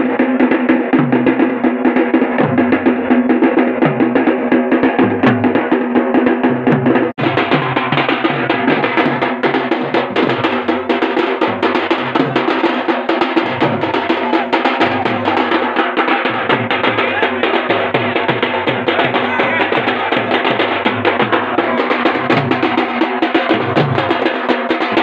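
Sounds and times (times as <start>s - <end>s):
drums beating fast rhythm: 0.0s - 25.0s.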